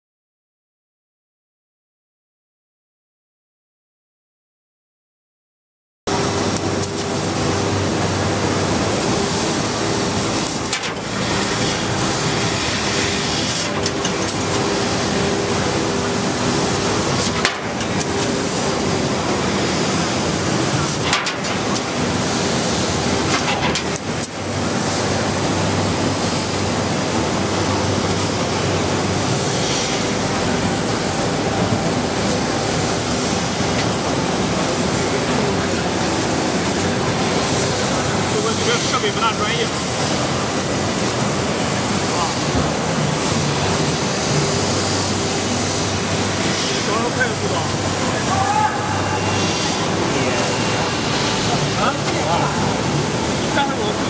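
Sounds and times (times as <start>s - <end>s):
laser cutter hissing: 6.1s - 54.0s
steady hum: 6.1s - 54.0s.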